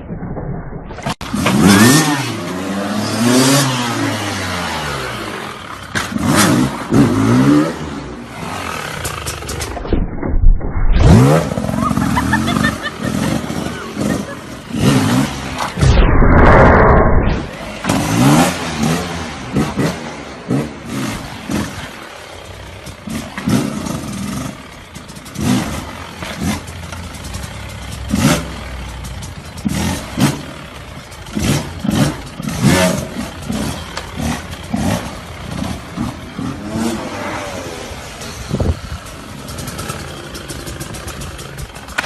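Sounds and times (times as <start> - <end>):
motorcycle engines revving: 1.2 - 9.8, 11.0 - 16.0, 16.6 - 42.0.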